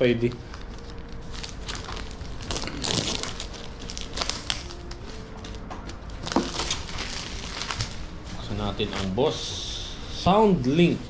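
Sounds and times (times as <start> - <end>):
packaging crinkling: 0.2 - 9.4.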